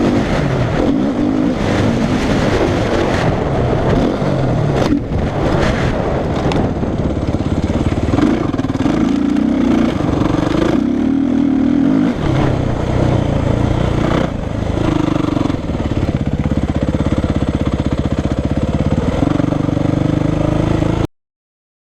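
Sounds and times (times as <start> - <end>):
motocross bike engine revving: 0.0 - 21.1.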